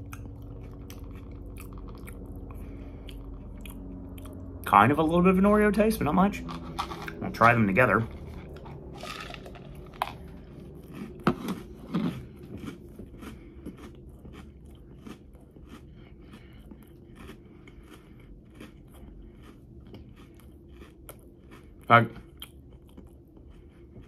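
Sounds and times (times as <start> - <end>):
person chewing crunchy cereal: 0.0 - 24.0.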